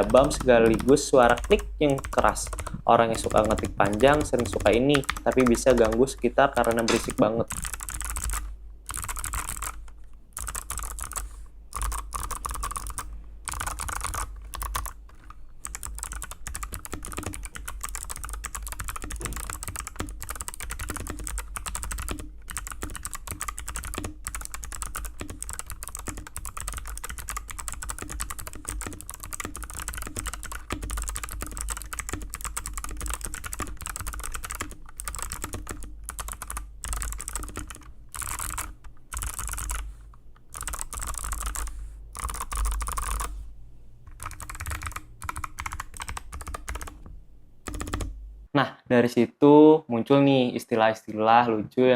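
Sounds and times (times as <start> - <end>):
fast typing on mechanical keyboard: 0.0 - 39.9, 40.5 - 43.4, 44.1 - 47.0, 47.6 - 48.1.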